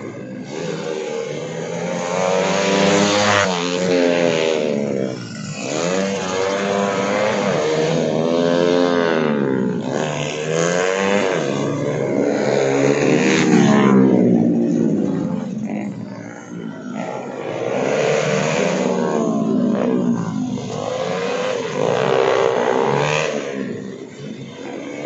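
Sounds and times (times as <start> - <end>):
racing motorcycle engines revving: 0.0 - 25.0.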